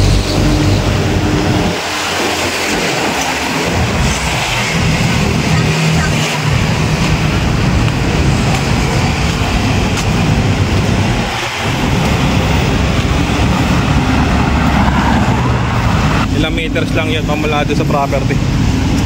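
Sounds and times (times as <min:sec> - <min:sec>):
highway traffic passing: 0:00.0 - 0:19.0.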